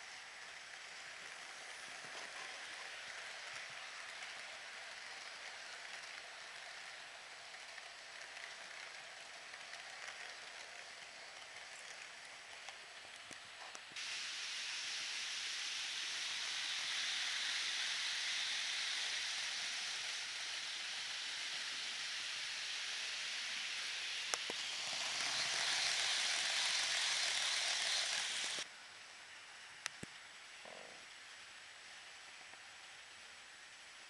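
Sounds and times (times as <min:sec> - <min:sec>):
model train running on track: 0:00.0 - 0:34.0.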